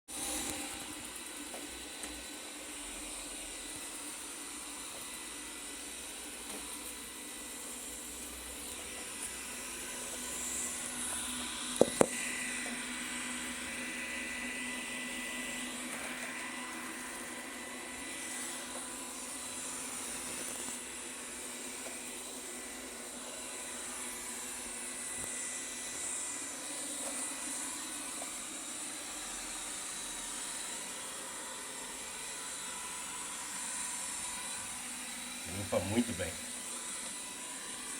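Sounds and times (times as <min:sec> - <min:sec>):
robot vacuum whirring: 0:00.1 - 0:37.9.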